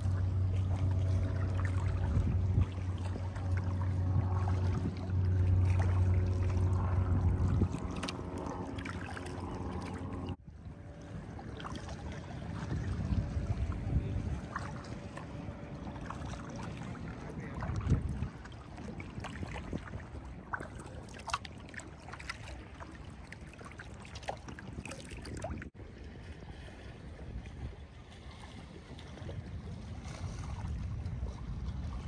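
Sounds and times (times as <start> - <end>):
paddle splashing in water: 0.0 - 32.0
wind rumbling on microphone: 0.0 - 32.0.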